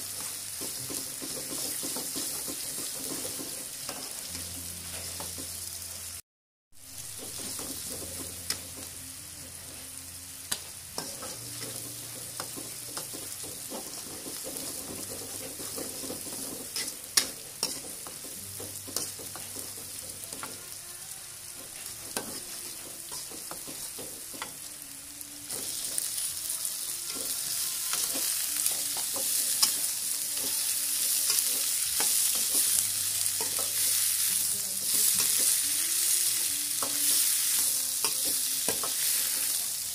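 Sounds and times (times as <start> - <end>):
oil sizzling in a wok: 0.0 - 6.2, 6.8 - 39.9.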